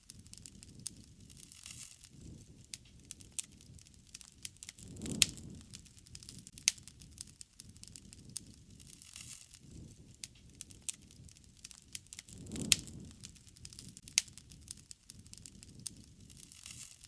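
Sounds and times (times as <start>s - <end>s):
low rush of flames: 0.0s - 17.0s
sharp pops of burning wood: 0.0s - 17.0s
wood fire crackling: 0.0s - 17.0s.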